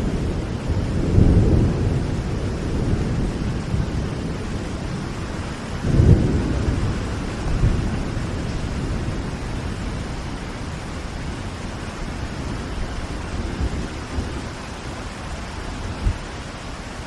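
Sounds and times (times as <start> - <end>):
thunder rumbling: 0.0 - 16.3
steady rain: 0.0 - 17.0.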